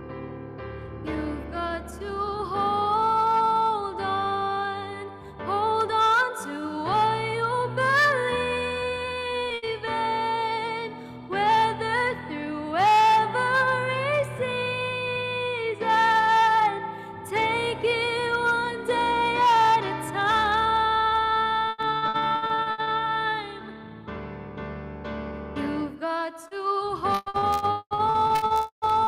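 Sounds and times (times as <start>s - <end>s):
woman singing: 1.0s - 23.9s, 25.6s - 29.0s.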